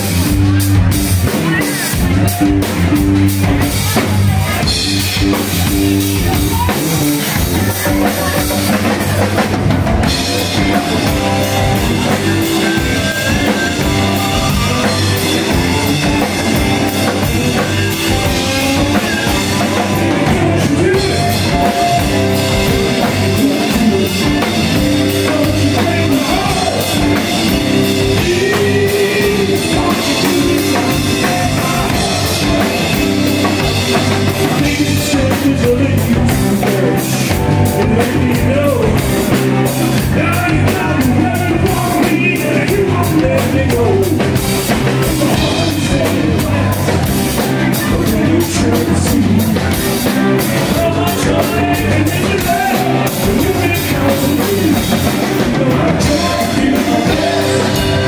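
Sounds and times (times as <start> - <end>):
drum kit and hand drums beat: 0.0 - 58.0
electric guitars: 0.0 - 58.0.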